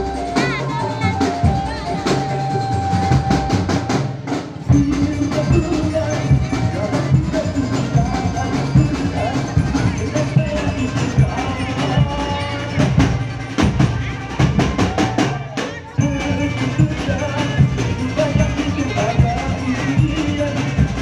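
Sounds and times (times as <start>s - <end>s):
drumming and knocking percussion: 0.0s - 21.0s
held melody line: 0.0s - 21.0s.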